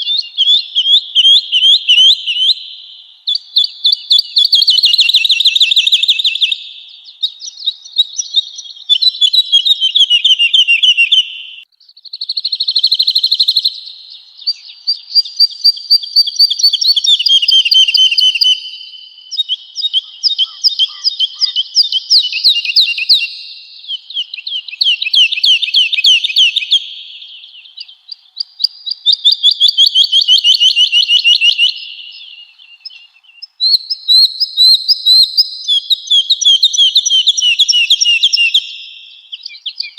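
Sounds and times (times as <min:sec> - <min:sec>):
bird singing trilled phrases: 0:00.0 - 0:39.9.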